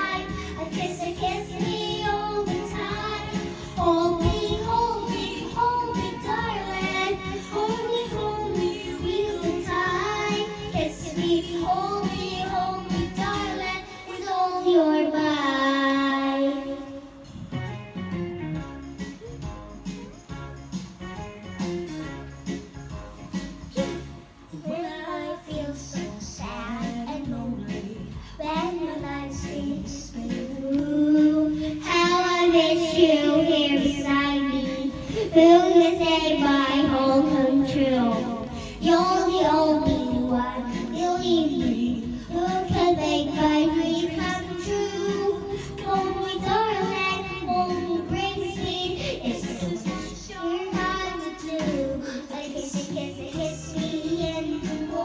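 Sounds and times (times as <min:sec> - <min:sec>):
girl singing into microphone: 0:00.0 - 0:17.5, 0:24.5 - 0:55.0
backing music track: 0:00.0 - 0:55.0.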